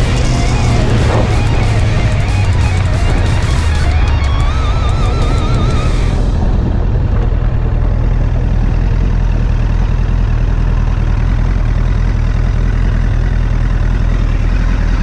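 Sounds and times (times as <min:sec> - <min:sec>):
motorcycle engine low rumble: 0:00.0 - 0:15.0.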